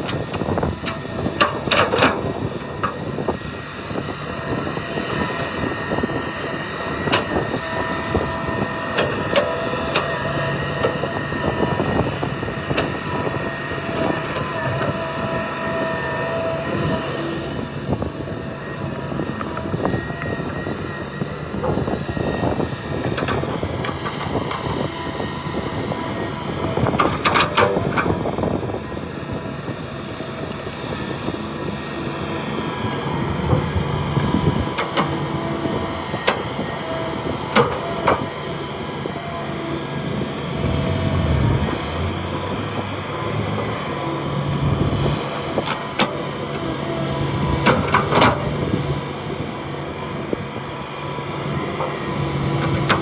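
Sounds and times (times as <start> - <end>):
diesel engine drone: 0.0 - 53.0.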